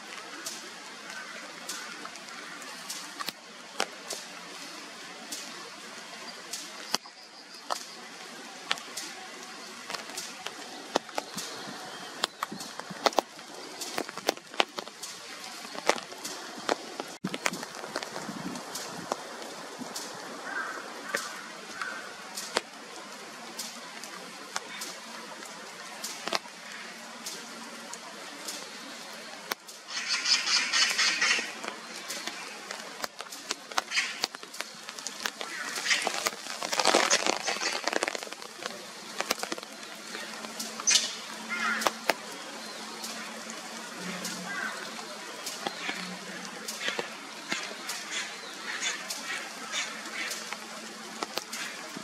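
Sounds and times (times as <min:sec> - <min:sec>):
steady rain falling: 0:00.0 - 0:52.0
water drips on hard surfaces: 0:00.0 - 0:52.0.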